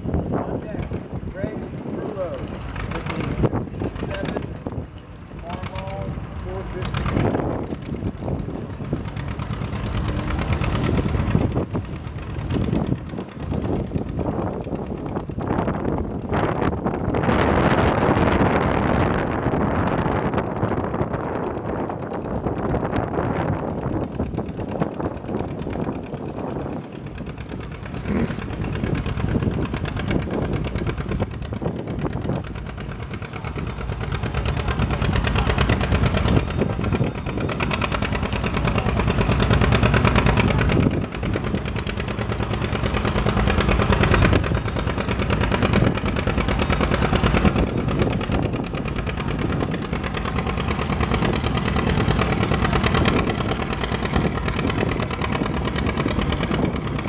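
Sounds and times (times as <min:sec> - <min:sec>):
tractor engine working hard: 0:00.0 - 0:57.0.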